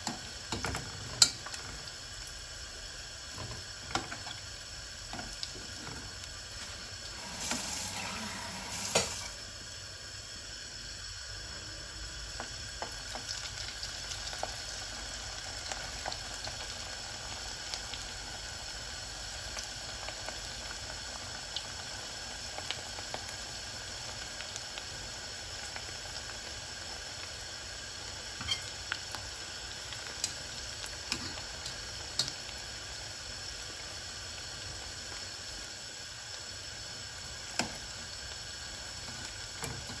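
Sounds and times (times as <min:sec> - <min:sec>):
oil sizzling with pops: 0:00.0 - 0:40.0.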